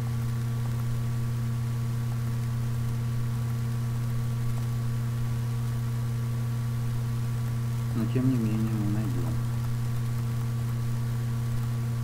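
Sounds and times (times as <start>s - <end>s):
electrical hum: 0.0s - 12.0s
microphone hiss and crackle: 0.0s - 12.0s.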